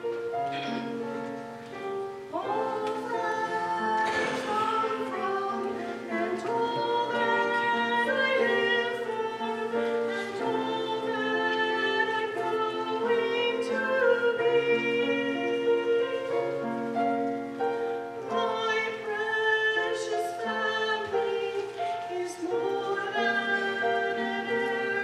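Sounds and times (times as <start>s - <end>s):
instrumental accompaniment: 0.0s - 25.0s
woman singing: 2.3s - 16.9s, 18.1s - 25.0s.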